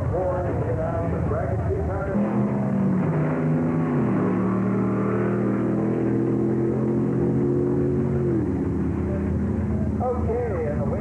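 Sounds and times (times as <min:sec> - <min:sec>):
race car engine accelerating: 0:00.0 - 0:11.0.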